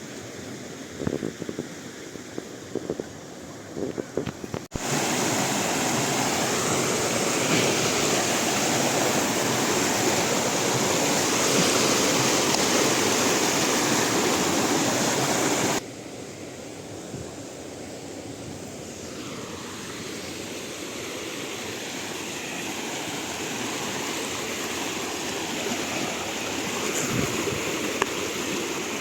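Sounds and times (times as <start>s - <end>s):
river water rushing: 4.7s - 29.0s.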